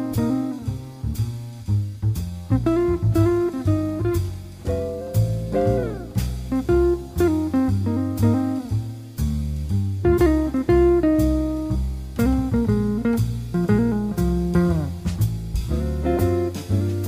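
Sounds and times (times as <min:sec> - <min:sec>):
bluesy guitar with bent notes: 0:00.0 - 0:17.0
low bass: 0:00.0 - 0:17.0.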